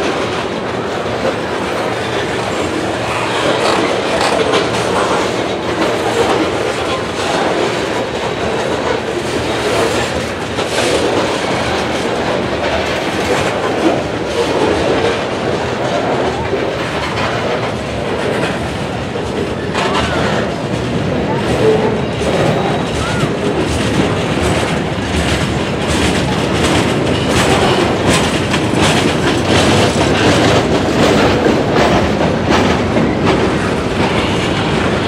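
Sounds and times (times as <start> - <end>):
steel wheels rumbling on rail: 0.0 - 35.0
wheels clicking over rail joints: 0.0 - 35.0.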